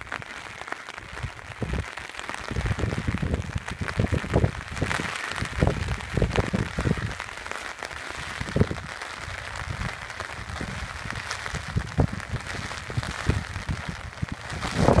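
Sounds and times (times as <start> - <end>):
hail pattering on an umbrella: 0.0 - 15.0
wind buffeting microphone: 1.0 - 7.3, 8.2 - 15.0.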